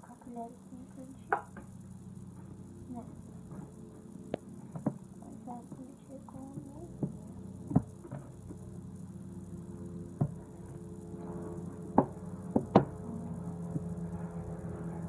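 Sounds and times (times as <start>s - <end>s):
helicopter hum: 0.0s - 15.0s.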